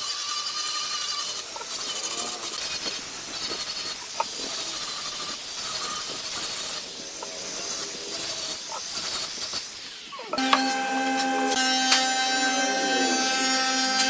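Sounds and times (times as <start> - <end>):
tool abrasively working wood: 0.0 - 14.0.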